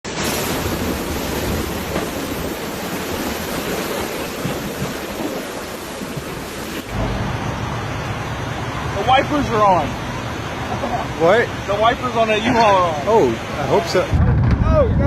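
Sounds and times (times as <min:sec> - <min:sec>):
hurricane wind and rain: 0:00.0 - 0:15.0.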